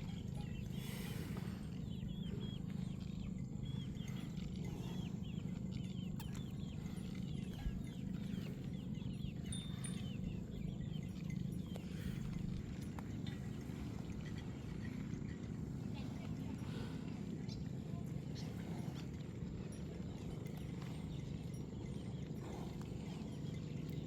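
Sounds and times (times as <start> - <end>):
birds chirping: 0.0 - 24.0
steady low rumble: 0.0 - 24.0.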